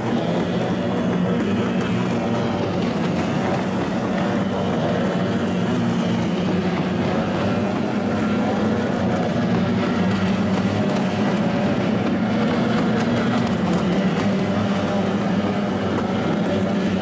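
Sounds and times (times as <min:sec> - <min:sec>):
outboard motors droning: 0:00.0 - 0:17.0.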